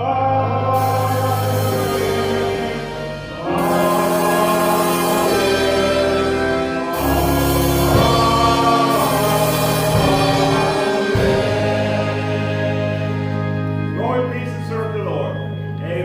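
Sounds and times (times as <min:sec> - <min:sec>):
gospel music with singing: 0:00.0 - 0:16.0.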